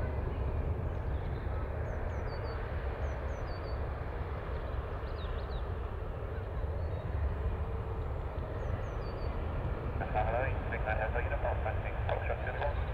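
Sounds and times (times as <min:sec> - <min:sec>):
distant jet engine rumble: 0:00.0 - 0:12.9.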